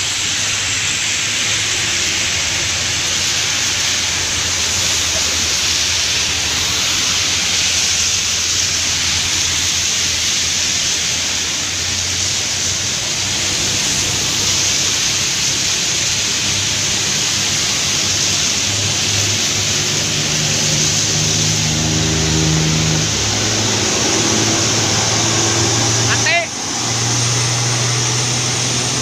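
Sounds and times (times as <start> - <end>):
heavy rain hissing on road: 0.0 - 29.0
passing traffic: 0.0 - 29.0
truck diesel engine drone: 0.0 - 29.0.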